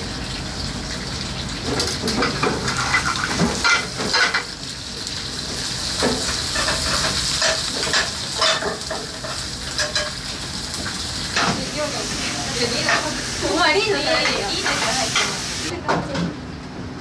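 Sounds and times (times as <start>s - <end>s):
vegetables sizzling in pans: 0.0s - 15.8s.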